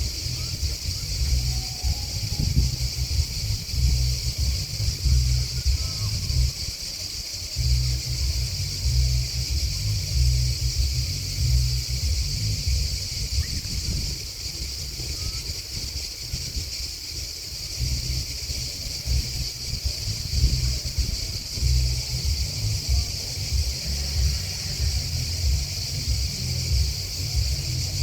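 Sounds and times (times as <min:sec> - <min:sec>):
insects chirping: 0:00.0 - 0:28.0
low rumble: 0:00.0 - 0:28.0.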